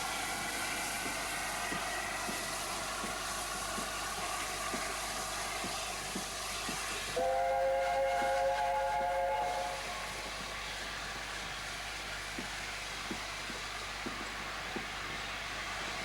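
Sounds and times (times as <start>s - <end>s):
steam locomotive running: 0.0s - 16.0s.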